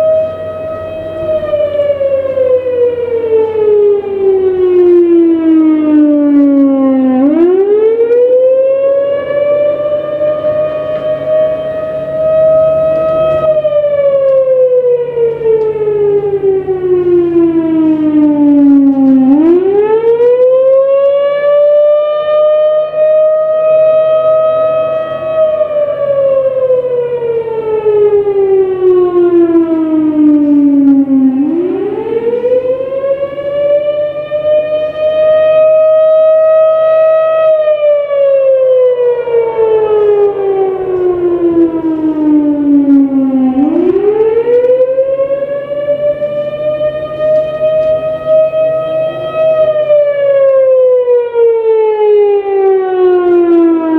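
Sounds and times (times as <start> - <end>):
warning siren wailing: 0.0 - 53.9.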